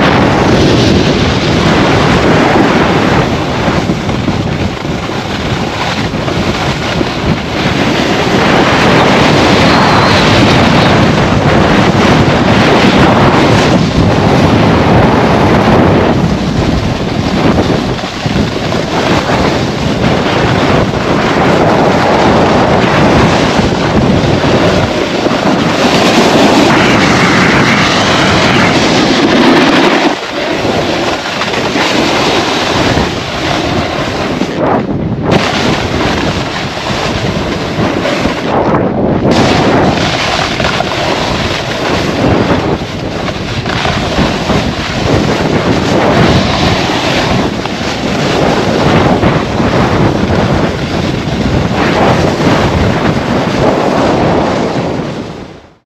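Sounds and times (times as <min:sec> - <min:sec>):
snowboard scraping over snow: 0:00.0 - 0:55.6
wind buffeting microphone: 0:00.0 - 0:55.8.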